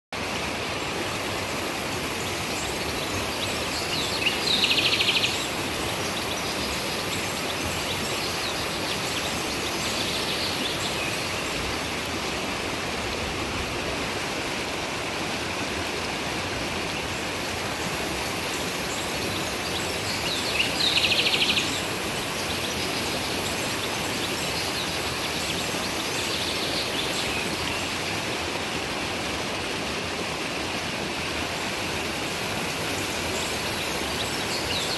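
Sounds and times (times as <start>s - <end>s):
stream water running: 0.1s - 34.9s.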